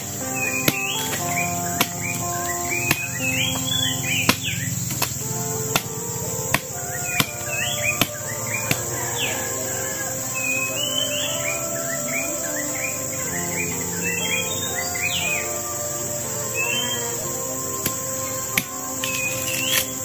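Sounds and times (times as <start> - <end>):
bird chirping: 0.0 - 20.0
insect drone: 0.0 - 20.0.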